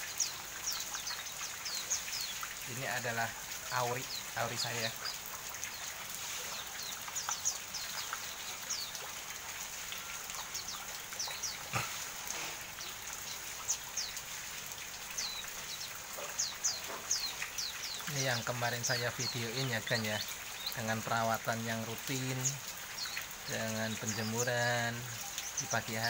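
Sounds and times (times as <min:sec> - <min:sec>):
rain patter: 0:00.0 - 0:26.0.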